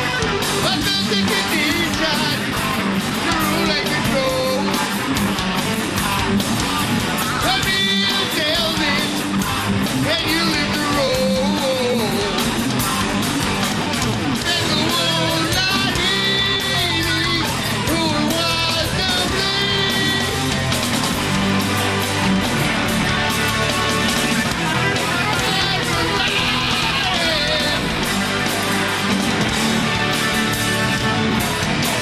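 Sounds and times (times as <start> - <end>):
distorted electric guitar lead: 0.0 - 32.0
heavy metal band playing: 0.0 - 32.0.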